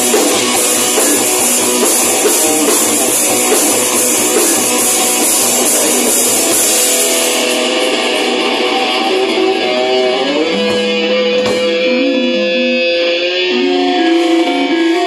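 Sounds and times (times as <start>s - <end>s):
electric guitars sustained notes: 0.0s - 15.0s.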